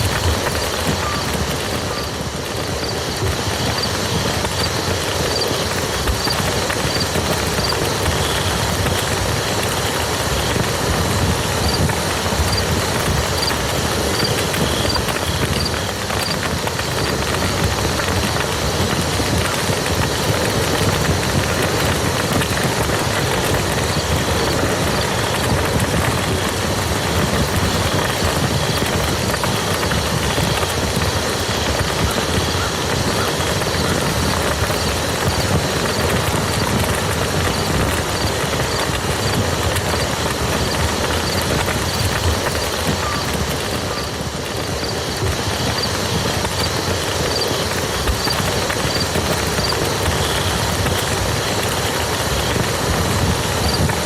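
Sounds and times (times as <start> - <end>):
rain falling on a field: 0.0 - 54.0.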